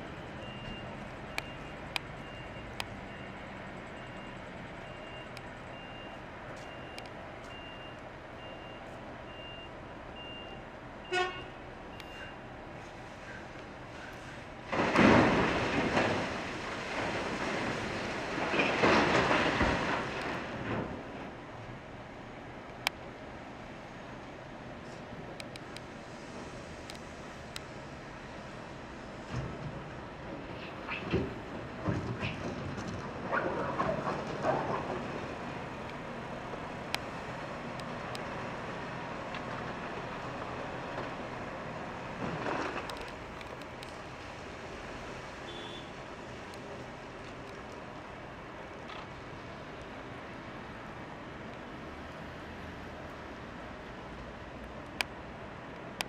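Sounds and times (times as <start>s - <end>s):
wheel loader diesel engine: 0.0s - 56.0s.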